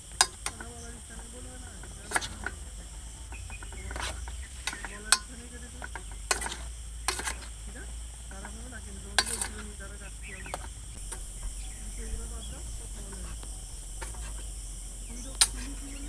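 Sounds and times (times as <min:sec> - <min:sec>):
crickets chirring: 0:00.0 - 0:16.0
utensils clinking against a pot: 0:00.0 - 0:16.0.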